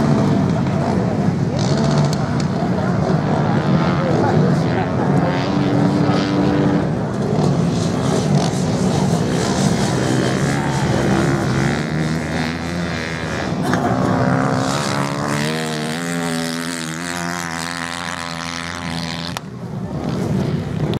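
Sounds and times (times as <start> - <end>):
racing motorcycle engines droning: 0.0 - 20.9.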